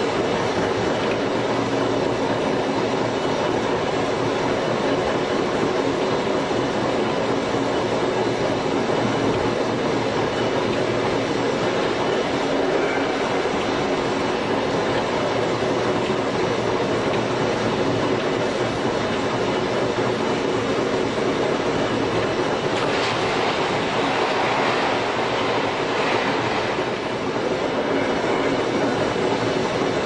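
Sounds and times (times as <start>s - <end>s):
train motor and gear hum: 0.0s - 30.0s
wheels rumbling on rail: 0.0s - 30.0s.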